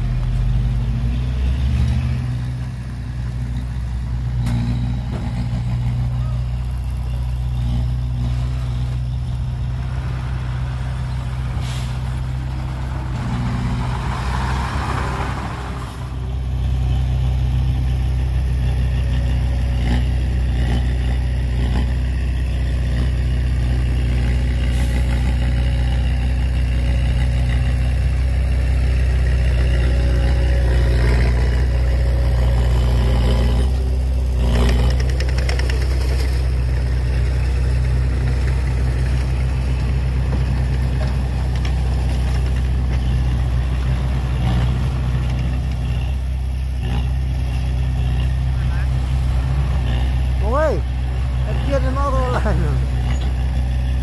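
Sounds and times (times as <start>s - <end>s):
heavy diesel engine droning: 0.0s - 54.0s.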